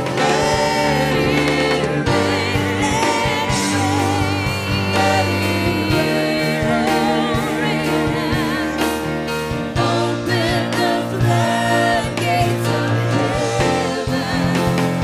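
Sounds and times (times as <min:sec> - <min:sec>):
gospel band playing: 0:00.0 - 0:15.0
people singing with vibrato: 0:00.0 - 0:15.0.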